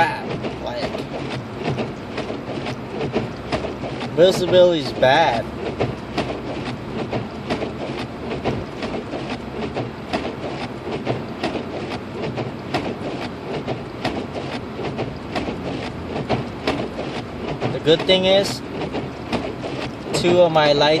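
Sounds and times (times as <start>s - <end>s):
tyre and road noise: 0.0s - 21.0s.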